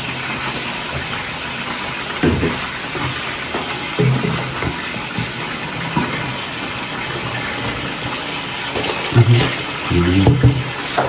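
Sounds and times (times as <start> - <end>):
hiss of frying oil: 0.0 - 11.0.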